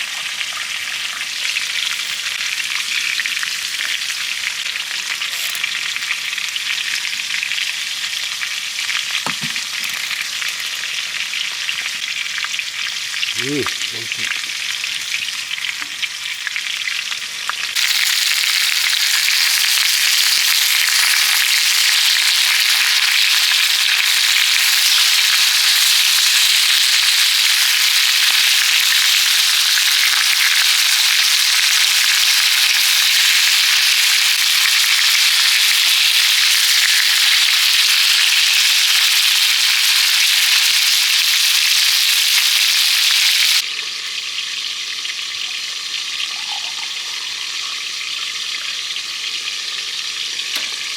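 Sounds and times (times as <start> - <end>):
food sizzling on a griddle pan: 0.0 - 50.9.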